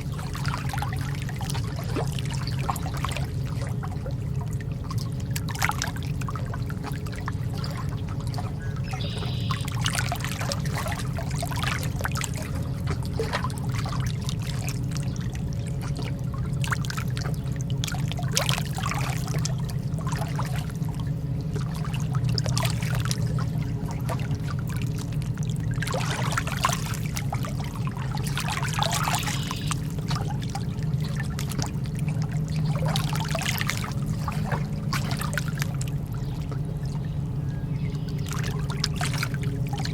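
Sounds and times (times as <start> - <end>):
water splashing: 0.0 - 37.4, 38.1 - 39.9
lake water lapping: 0.0 - 39.9
low rumble: 0.0 - 39.9.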